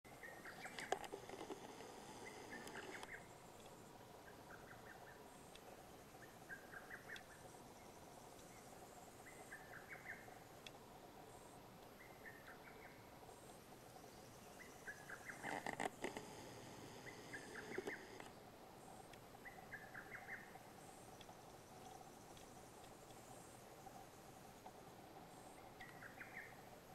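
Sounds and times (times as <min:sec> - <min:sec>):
rustle: 0:00.1 - 0:26.9.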